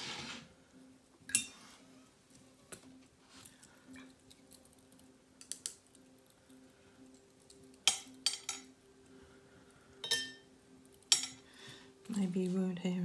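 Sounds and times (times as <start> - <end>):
faint steady hum: 0.2 - 13.0.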